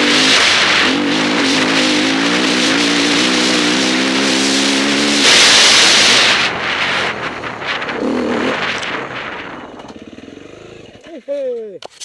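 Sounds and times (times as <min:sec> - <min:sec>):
loud rush of noise: 0:00.0 - 0:10.1
motorcycle engine running: 0:00.0 - 0:11.2.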